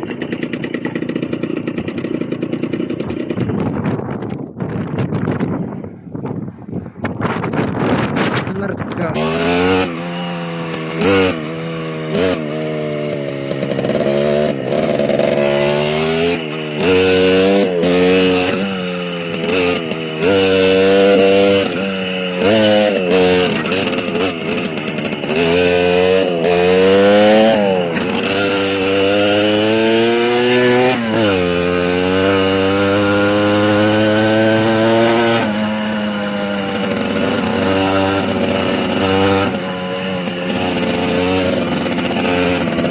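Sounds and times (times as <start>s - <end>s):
small motorcycle engine revving: 0.0s - 5.8s, 7.1s - 42.9s.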